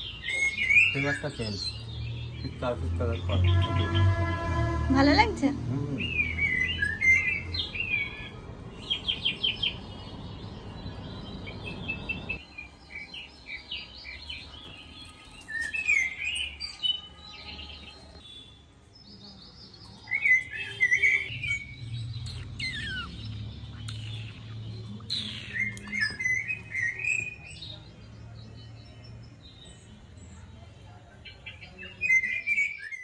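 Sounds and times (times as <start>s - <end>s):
small birds chirping: 0.0s - 4.2s, 5.0s - 33.0s.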